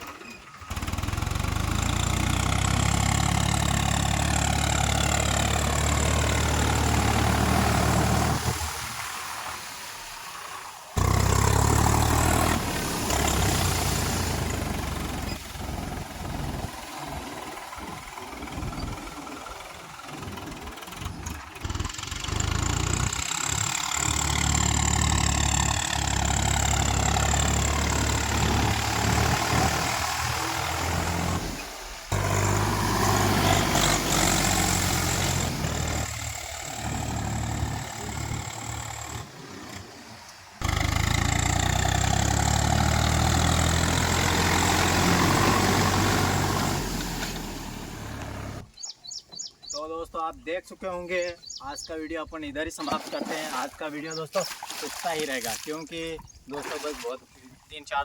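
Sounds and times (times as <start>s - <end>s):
tractor diesel engine running: 0.0s - 9.6s, 11.0s - 49.5s.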